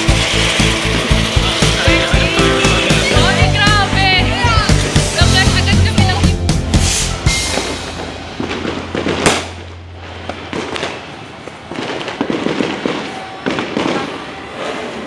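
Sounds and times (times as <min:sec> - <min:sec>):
firecrackers crackling: 0:00.0 - 0:15.0
fireworks bangs: 0:00.0 - 0:15.0.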